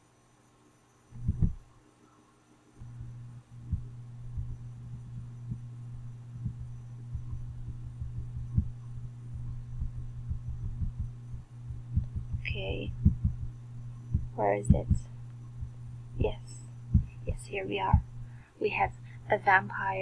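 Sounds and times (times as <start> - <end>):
steady low hum: 0.0 - 20.0
soft low thumps: 1.2 - 1.7, 2.8 - 19.3.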